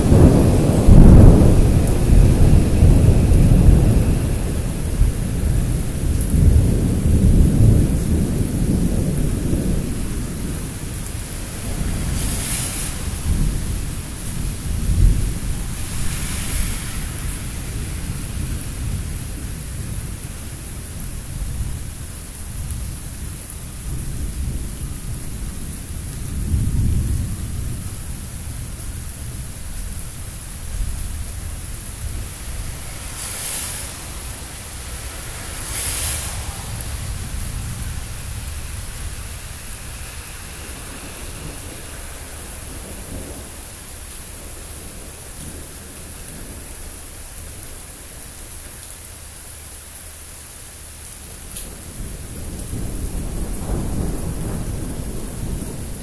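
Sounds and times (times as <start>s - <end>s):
thunder rumbling: 0.0s - 50.0s, 50.8s - 56.0s
steady rain: 0.0s - 56.0s.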